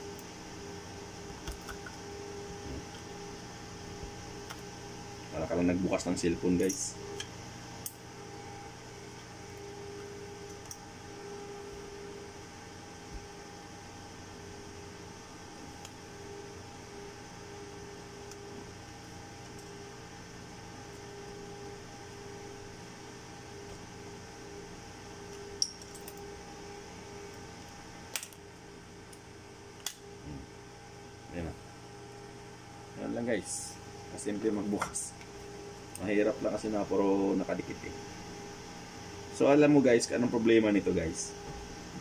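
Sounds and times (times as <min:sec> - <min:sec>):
steady hum with hiss: 0:00.0 - 0:42.0.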